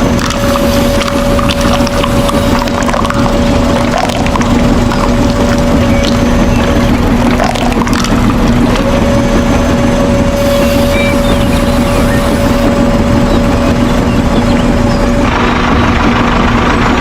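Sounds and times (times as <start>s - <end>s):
small electric motor humming: 0.0s - 16.6s
motor whine: 0.0s - 17.0s.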